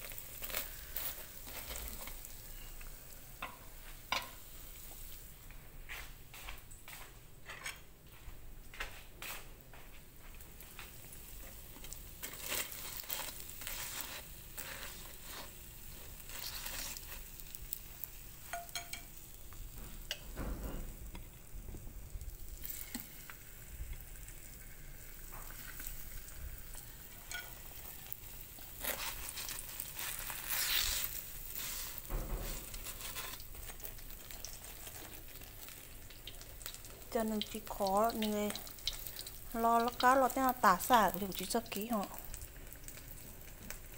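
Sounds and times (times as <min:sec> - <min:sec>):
sharp crackles and pops: 0:00.0 - 0:05.6, 0:08.7 - 0:43.9
oil sizzling in a skillet: 0:00.0 - 0:07.1, 0:09.4 - 0:43.9.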